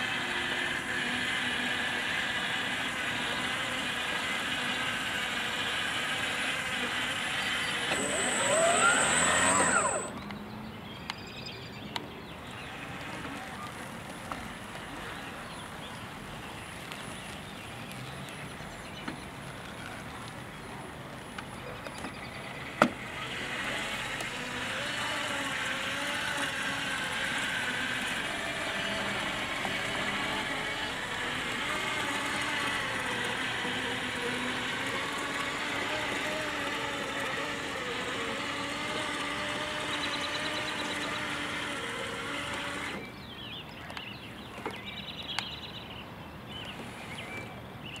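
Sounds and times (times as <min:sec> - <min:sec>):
robot electric motors whining: 0:00.0 - 0:10.4, 0:12.4 - 0:43.4.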